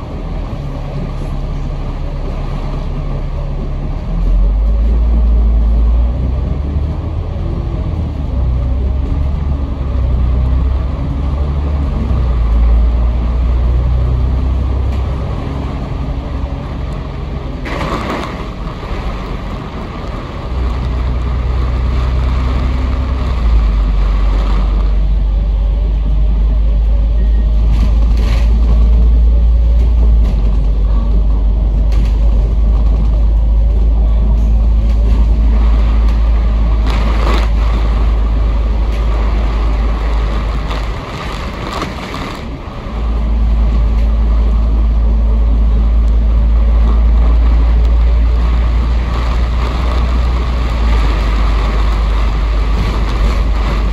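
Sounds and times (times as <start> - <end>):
bus engine rumbling: 0.0 - 53.9.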